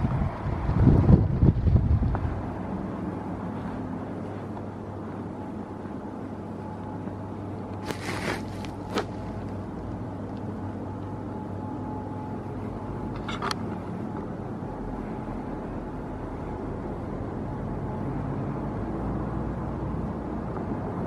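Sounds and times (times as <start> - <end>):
station hall hum: 0.0 - 21.0.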